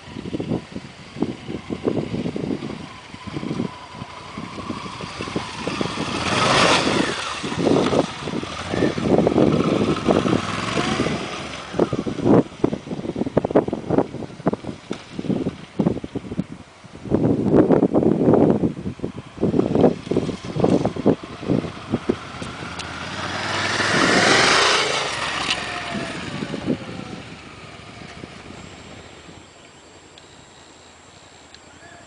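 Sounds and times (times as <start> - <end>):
motorcycle engine revving: 0.0 - 15.7, 18.4 - 29.5.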